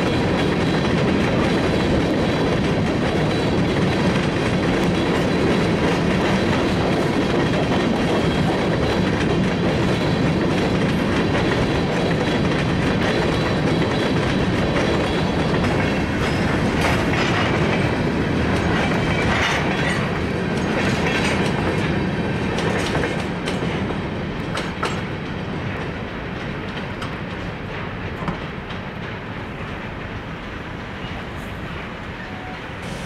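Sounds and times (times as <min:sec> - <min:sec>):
train wheels clacking over rail joints: 0:00.0 - 0:32.0.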